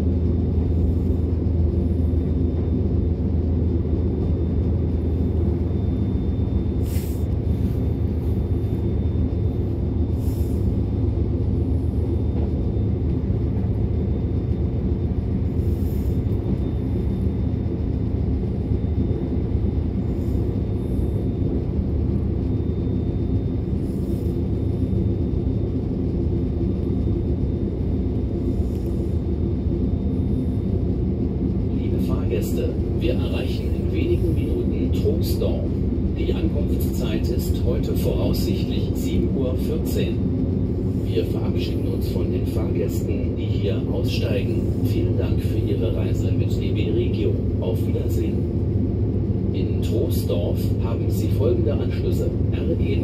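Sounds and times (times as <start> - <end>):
faint high whine: 0.0 - 53.0
train wheels rumbling on track: 0.0 - 53.0.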